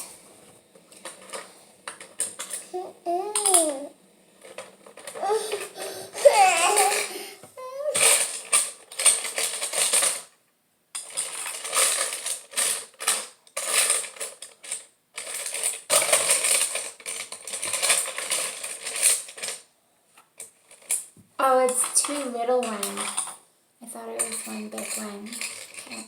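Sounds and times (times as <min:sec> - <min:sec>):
plastic bricks clattering: 0:00.6 - 0:10.3, 0:11.0 - 0:19.7, 0:20.4 - 0:23.4, 0:24.1 - 0:26.0.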